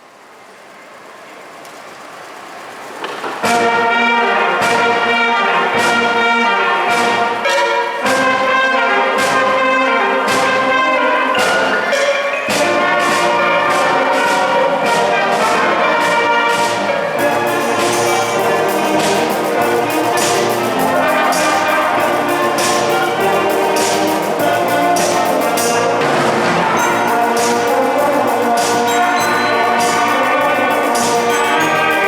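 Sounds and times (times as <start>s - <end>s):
drum and cymbal hits: 2.9s - 32.0s
wind band playing upbeat tune: 3.0s - 32.0s.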